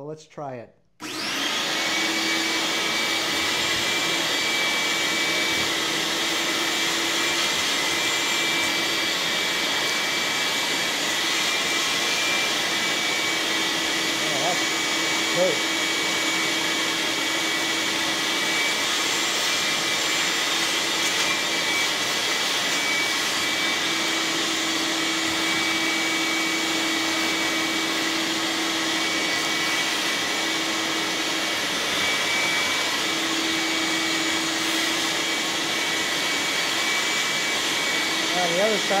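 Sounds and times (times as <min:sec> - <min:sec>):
shop vacuum running: 0:01.0 - 0:39.0.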